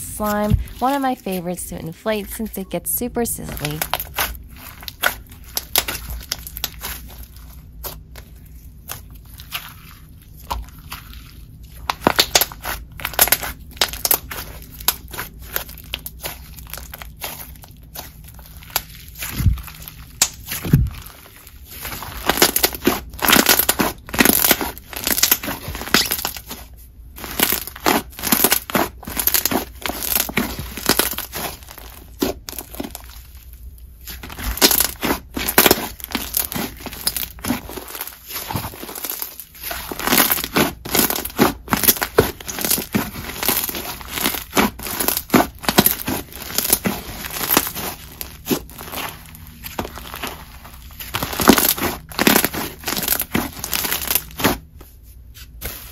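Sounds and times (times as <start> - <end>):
slime crackling while kneaded: 0.0 - 54.8.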